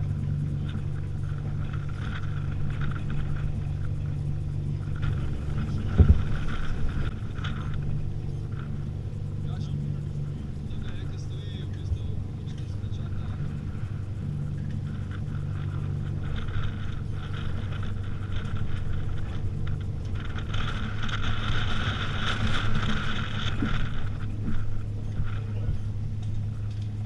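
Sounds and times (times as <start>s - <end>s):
boat engine running at low revs: 0.0s - 27.0s
high-pitched whirr: 0.0s - 27.0s
strong wind rushing: 0.0s - 27.0s.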